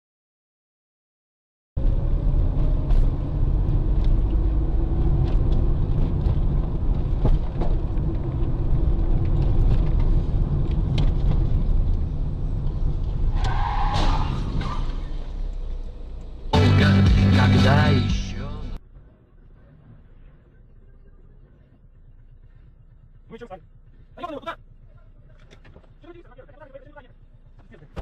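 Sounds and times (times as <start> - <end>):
vehicle engine rumbling: 1.8 - 28.0.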